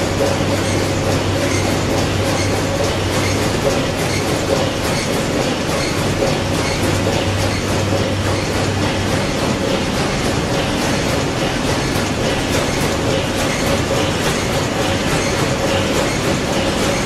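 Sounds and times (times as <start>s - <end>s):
diesel engine clatter: 0.0s - 17.0s.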